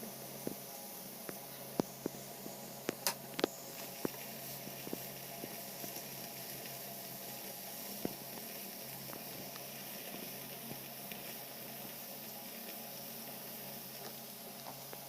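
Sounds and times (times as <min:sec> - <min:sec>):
meat sizzling in a hot pan: 0:00.0 - 0:15.0.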